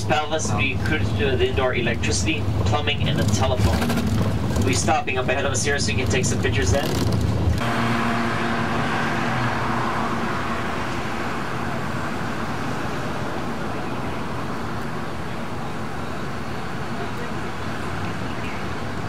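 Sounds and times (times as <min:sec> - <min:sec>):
passing cars: 0:00.0 - 0:19.0.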